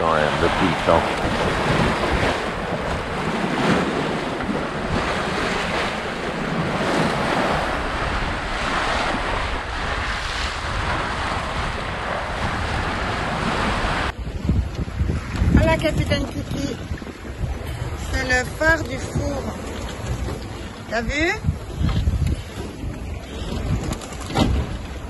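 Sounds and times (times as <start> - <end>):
bow wave rushing along hull: 0.0 - 25.0
wind buffeting microphone: 0.0 - 25.0.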